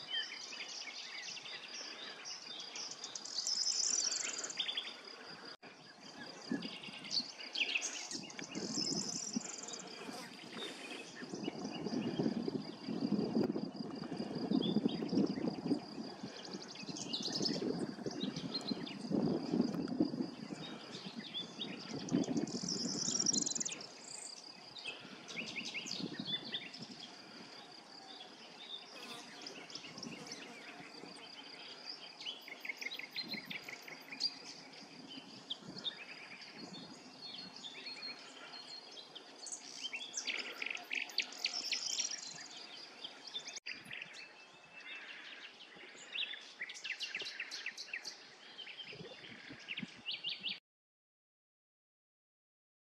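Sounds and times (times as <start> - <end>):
small birds chirping and trilling: 0.0 - 50.6.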